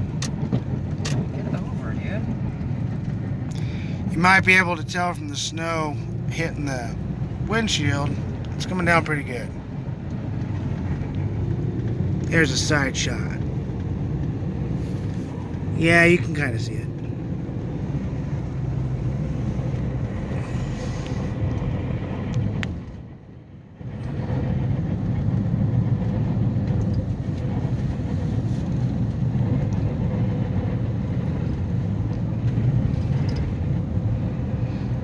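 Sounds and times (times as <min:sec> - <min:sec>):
road and tyre noise in car: 0:00.0 - 0:35.0.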